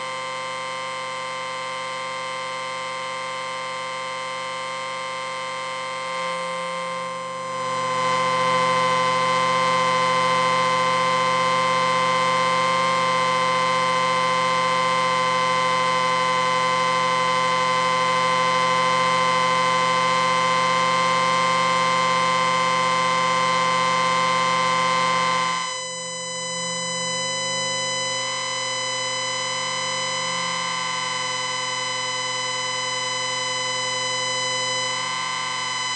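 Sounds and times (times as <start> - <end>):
electric ringing buzz: 4.5 - 35.9.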